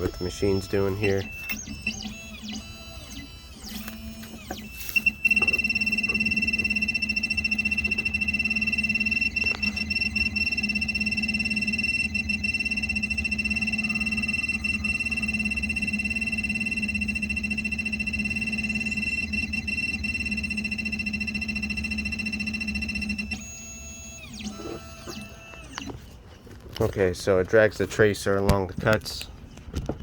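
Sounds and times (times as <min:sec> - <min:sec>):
key-cutting machine motors whining: 0:00.0 - 0:26.1.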